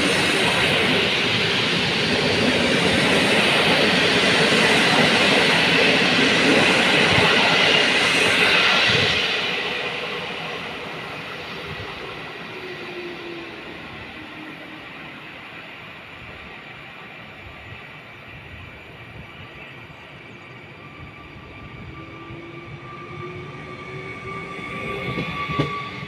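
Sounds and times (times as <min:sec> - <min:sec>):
train running past: 0:00.0 - 0:26.0.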